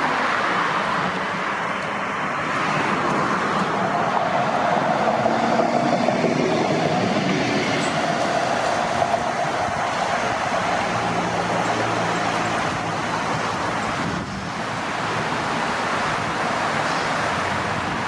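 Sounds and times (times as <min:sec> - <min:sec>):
tram wheels rushing on rails: 0:00.0 - 0:18.0
tram whine: 0:00.0 - 0:18.0.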